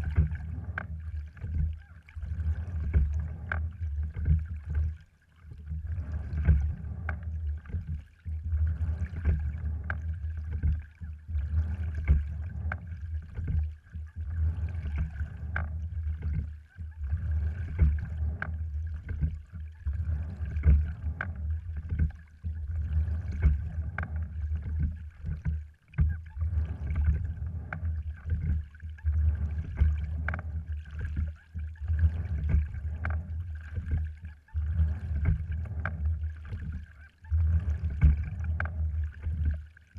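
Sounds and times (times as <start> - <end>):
oars clicking in oarlocks: 0.0 - 39.9
steady low rumble: 0.0 - 39.9
water rushing along hull: 0.0 - 39.9.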